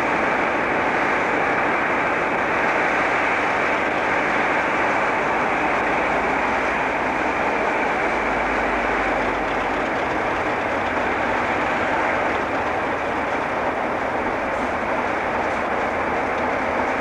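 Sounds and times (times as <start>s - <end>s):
snowblower rushing noise: 0.0s - 17.0s.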